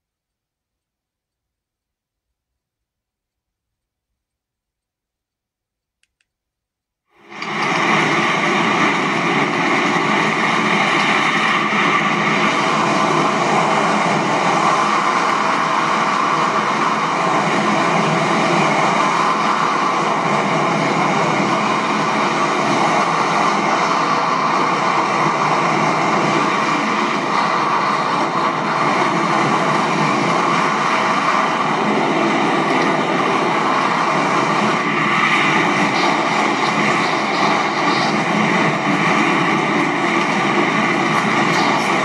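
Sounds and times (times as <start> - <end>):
wind rushing on microphone: 7.3 - 42.0.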